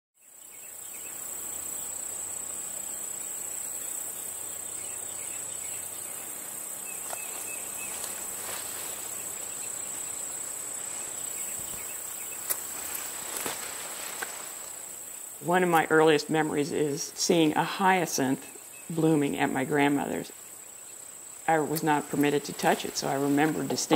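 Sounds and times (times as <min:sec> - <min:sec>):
insects trilling: 0:00.2 - 0:23.9.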